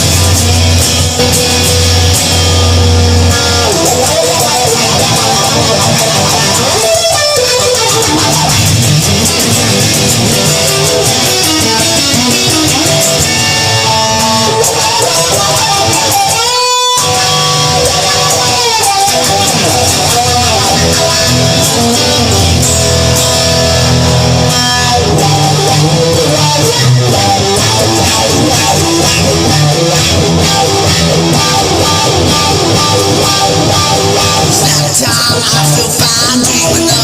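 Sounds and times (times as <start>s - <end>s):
bass line: 0.0s - 37.0s
strummed electric guitar: 0.0s - 37.0s.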